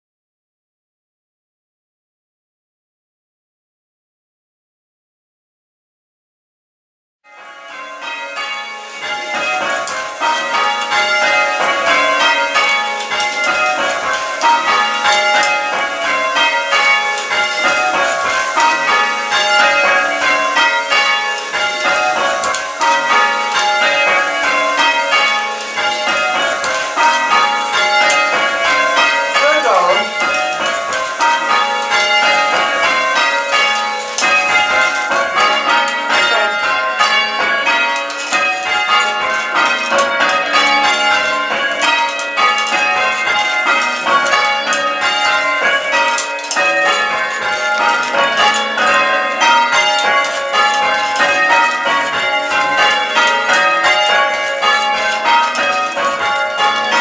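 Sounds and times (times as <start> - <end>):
church bells change-ringing: 7.3 - 57.0.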